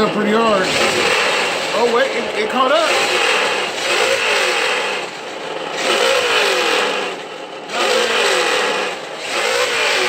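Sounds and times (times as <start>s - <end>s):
simulated engine revving from speaker: 0.0s - 10.0s.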